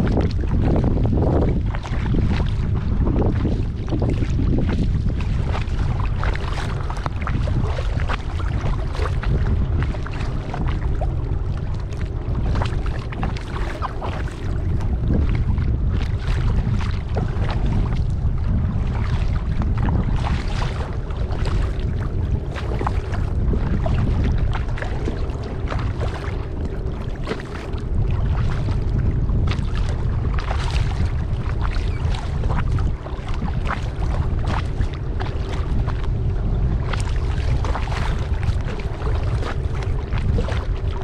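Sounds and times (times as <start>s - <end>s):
paddle strokes in water: 0.0s - 41.0s
water splashes and drips: 0.0s - 41.0s
wind on microphone: 0.0s - 41.0s.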